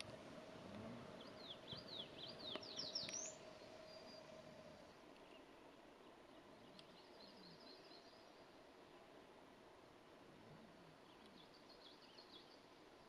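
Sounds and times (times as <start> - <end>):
faint songbird chirps: 0.0 - 9.2, 10.0 - 13.0.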